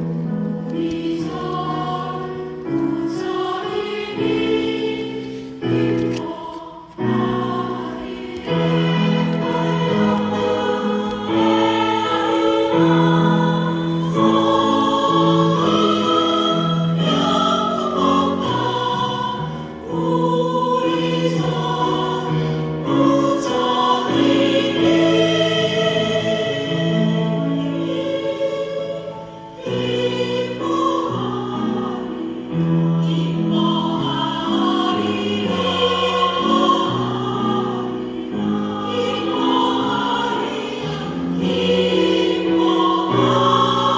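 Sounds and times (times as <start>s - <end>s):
choir singing a hymn: 0.0s - 43.9s.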